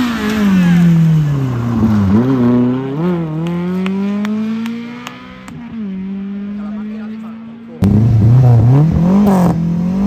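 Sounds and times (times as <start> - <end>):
rally car engine passing: 0.0 - 10.0.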